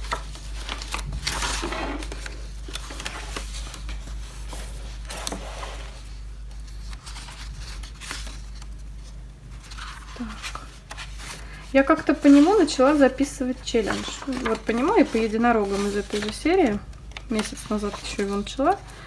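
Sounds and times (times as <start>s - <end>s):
paper pages rustling: 0.0s - 19.0s.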